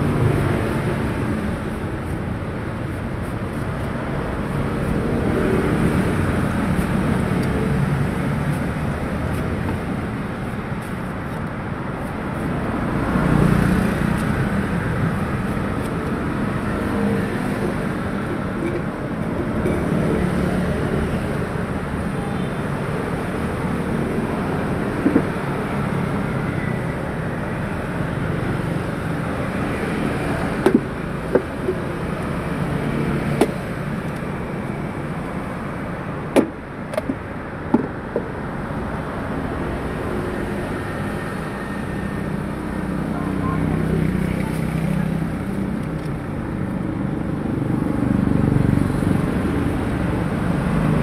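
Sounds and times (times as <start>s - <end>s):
street traffic: 0.0s - 51.0s.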